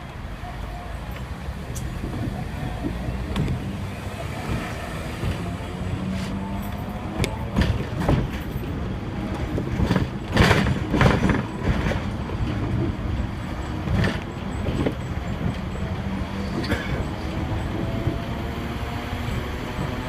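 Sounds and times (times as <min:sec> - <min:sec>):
tram rumble and hum: 0:00.0 - 0:20.0
wheels knocking on track: 0:01.1 - 0:20.0.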